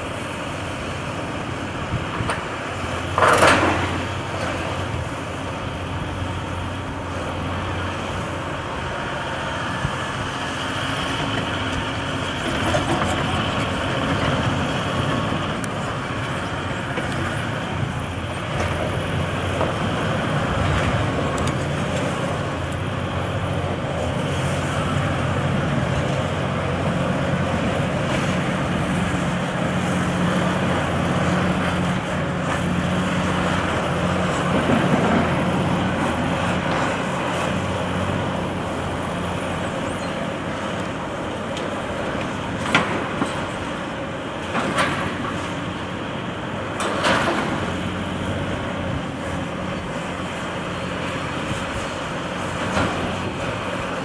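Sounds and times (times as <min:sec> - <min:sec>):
excavator diesel engines: 0:00.0 - 0:54.0.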